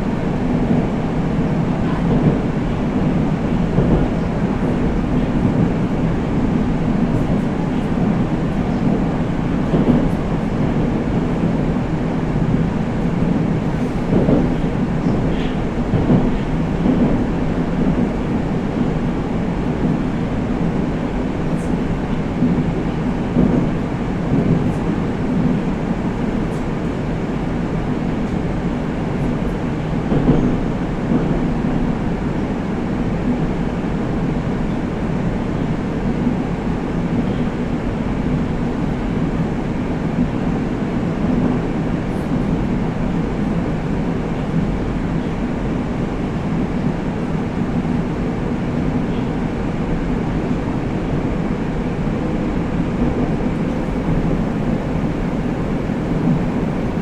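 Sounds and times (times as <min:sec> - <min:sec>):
metro train wheels rumbling on rails: 0:00.0 - 0:57.0.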